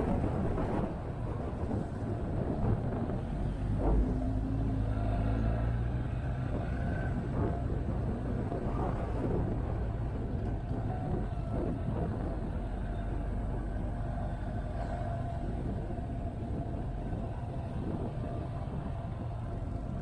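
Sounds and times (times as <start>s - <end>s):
motorcycle engine rumble: 0.0s - 20.0s
wind noise on microphone: 0.0s - 20.0s.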